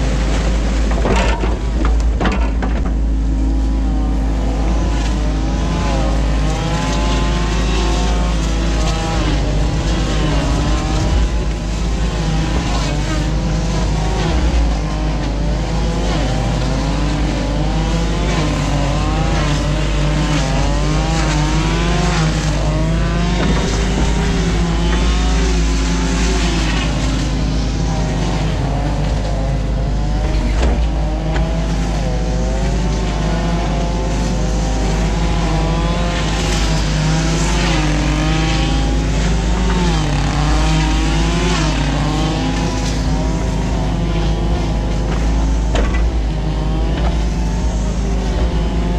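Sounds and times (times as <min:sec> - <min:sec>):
excavator engine and hydraulics: 0:00.0 - 0:48.9.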